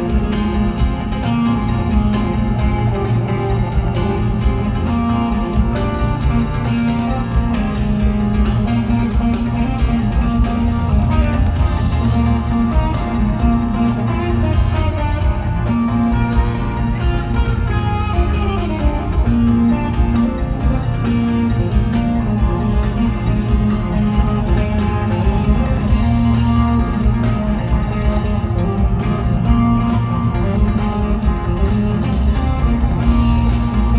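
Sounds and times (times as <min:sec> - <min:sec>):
electric guitar lines: 0:00.0 - 0:33.9
rock band playing live: 0:00.0 - 0:33.9.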